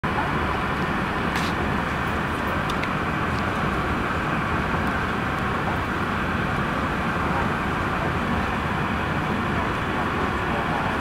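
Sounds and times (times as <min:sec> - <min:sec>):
airliner cabin engine noise: 0:00.0 - 0:11.0.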